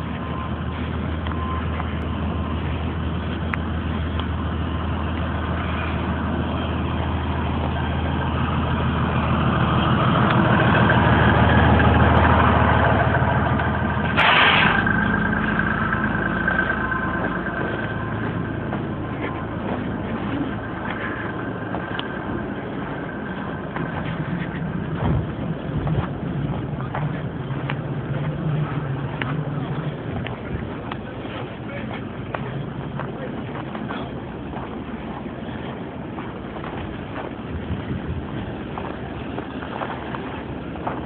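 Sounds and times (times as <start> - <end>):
heavy vehicle engine droning: 0.0 - 41.0.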